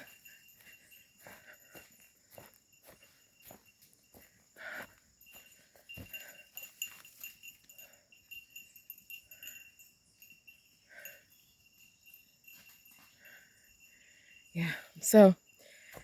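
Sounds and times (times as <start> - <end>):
steady high ringing: 0.0 - 16.0.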